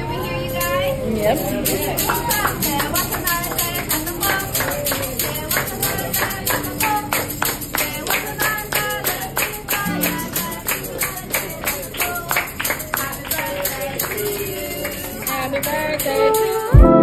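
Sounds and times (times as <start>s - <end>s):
people singing birthday song: 0.0s - 17.0s
hand claps: 1.6s - 16.7s.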